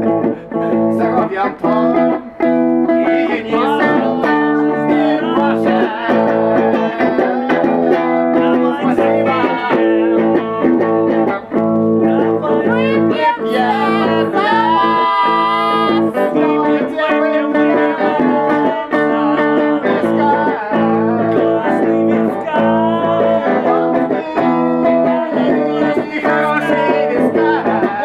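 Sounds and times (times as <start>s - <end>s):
blues guitar strummed chords: 0.0s - 28.0s
guitar melody bending in pitch: 0.0s - 28.0s.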